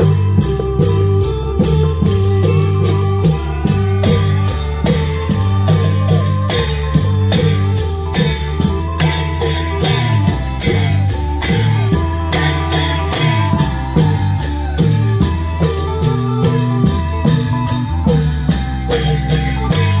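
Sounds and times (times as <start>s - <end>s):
drums playing steady beat: 0.0s - 20.0s
pitched melody: 0.0s - 20.0s.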